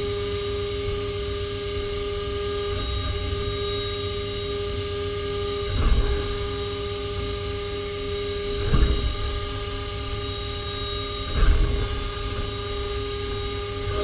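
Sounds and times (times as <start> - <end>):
machine spindle whining: 0.0 - 14.0.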